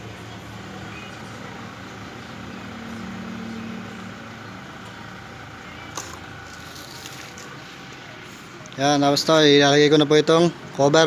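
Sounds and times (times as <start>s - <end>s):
motor vehicle hum: 0.0s - 10.8s.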